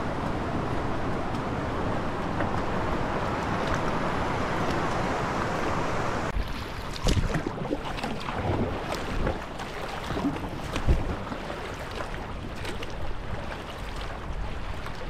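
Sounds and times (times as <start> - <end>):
paddle strokes splashing: 0.0 - 15.0
water lapping against hull: 0.0 - 15.0
wind on microphone: 0.0 - 15.0.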